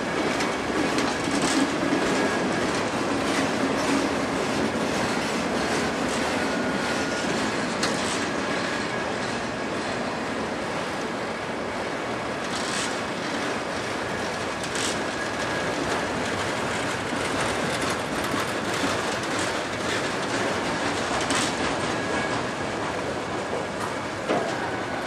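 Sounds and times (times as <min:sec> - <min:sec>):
sharp clacks of rail wheels: 0:00.0 - 0:25.0
steel wheels on rail: 0:00.0 - 0:25.0.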